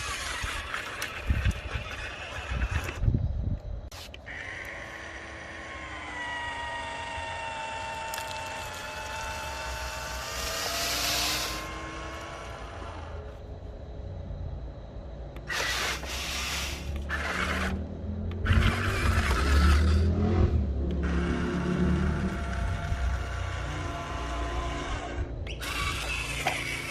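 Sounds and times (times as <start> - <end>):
electric motor whining: 0.0 - 3.3, 3.9 - 13.6, 15.4 - 26.9.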